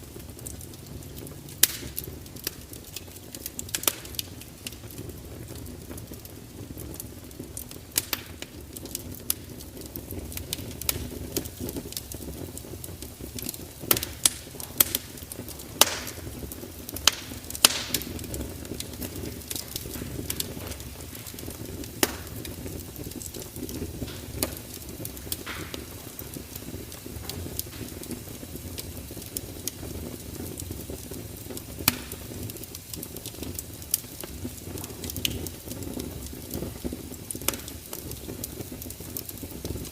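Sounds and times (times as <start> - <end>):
fire popping and snapping: 0.0 - 39.9
wood fire crackling: 0.0 - 39.9.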